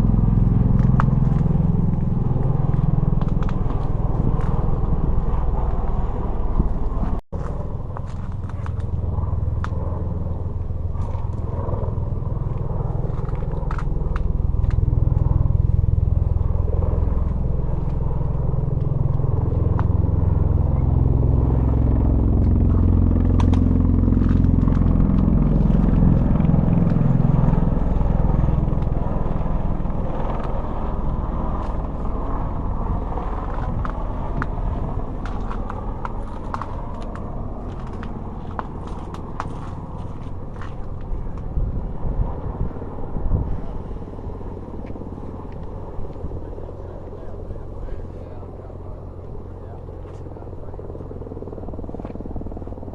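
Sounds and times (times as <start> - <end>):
aircraft rumbling drone: 0.0 - 52.9.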